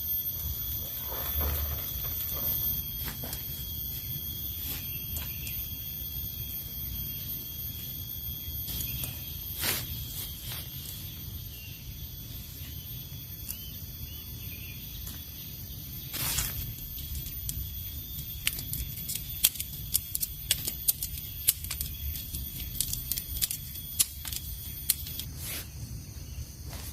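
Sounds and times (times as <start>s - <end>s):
high insect drone: 0.0s - 26.9s.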